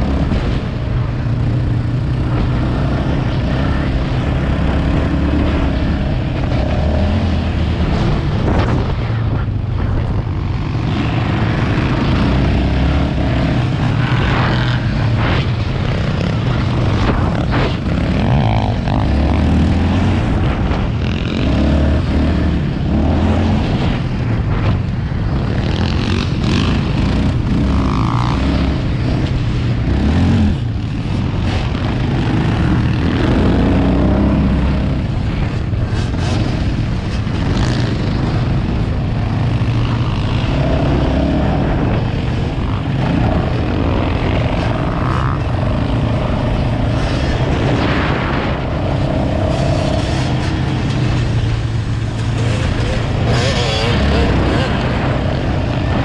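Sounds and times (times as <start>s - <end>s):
atv engine running: 0.0s - 56.0s
wind on microphone: 0.0s - 56.0s.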